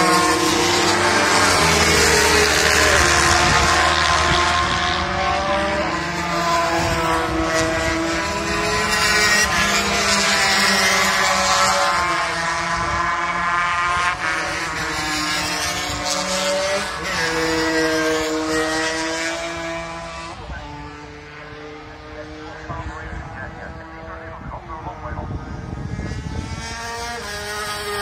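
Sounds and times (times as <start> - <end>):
racing motorcycles passing: 0.0 - 28.0.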